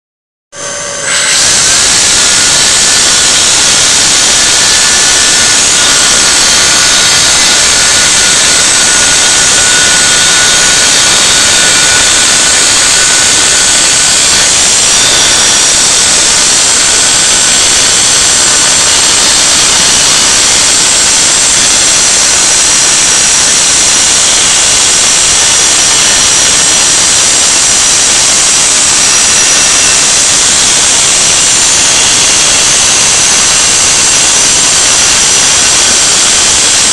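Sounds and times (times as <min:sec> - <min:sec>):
faint high whine: 0:00.6 - 0:36.9
vacuum cleaner running: 0:00.6 - 0:36.9.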